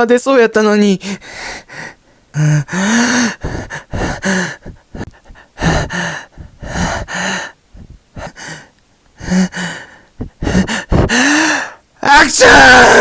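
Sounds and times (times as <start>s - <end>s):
person gasping before sneeze: 1.1s - 11.8s.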